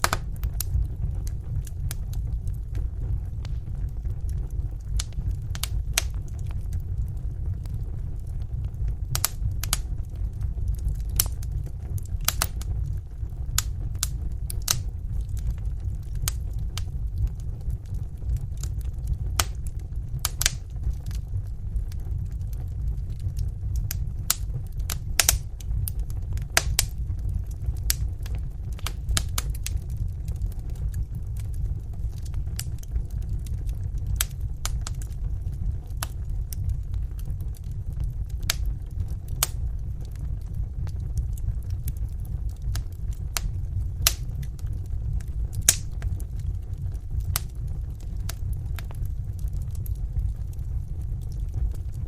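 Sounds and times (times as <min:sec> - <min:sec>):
fire rumbling: 0:00.0 - 0:52.0
wood fire crackling: 0:00.0 - 0:52.0.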